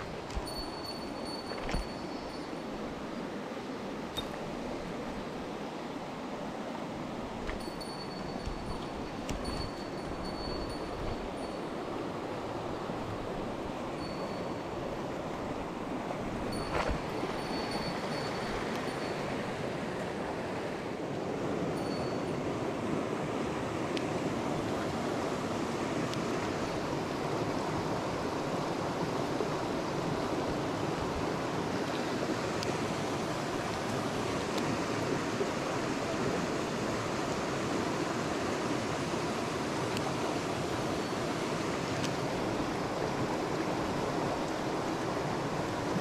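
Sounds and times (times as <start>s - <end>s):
stream rushing over rocks: 0.0s - 46.0s.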